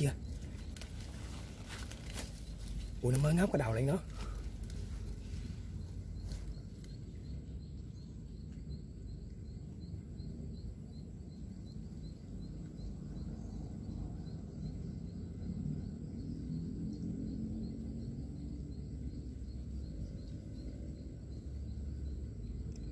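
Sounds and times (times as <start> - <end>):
faint insect chirping: 0.0 - 22.9.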